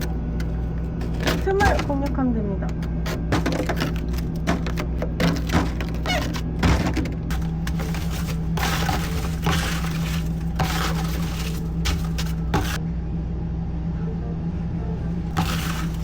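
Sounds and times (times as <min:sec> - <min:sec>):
scrubbing and scraping: 0:00.0 - 0:12.8, 0:15.3 - 0:16.0
low machine hum: 0:00.0 - 0:16.0.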